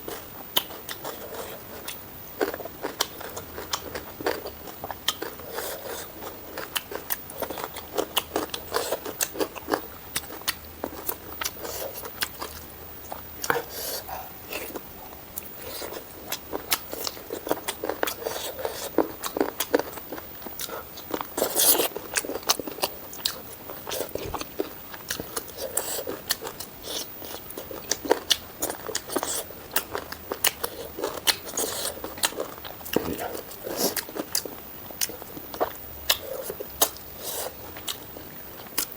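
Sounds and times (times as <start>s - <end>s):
crunchy bites and chewing: 0.0s - 38.9s.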